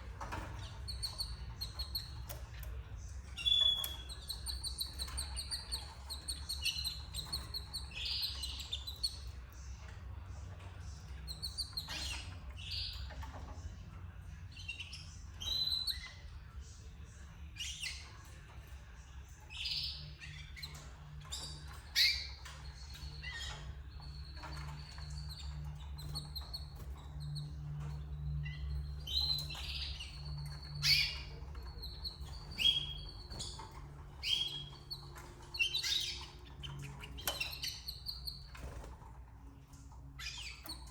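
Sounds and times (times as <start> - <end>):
canaries chirping: 0.0 - 40.9.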